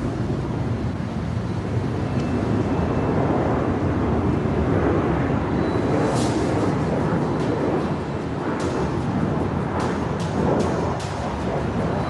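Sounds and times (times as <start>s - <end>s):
fighter jet engines roaring: 0.0s - 12.0s.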